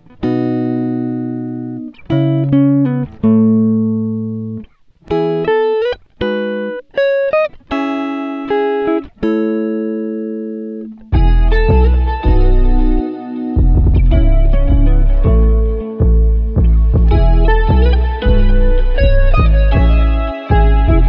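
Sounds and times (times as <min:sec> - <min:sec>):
background music ringing notes: 0:00.2 - 0:21.0.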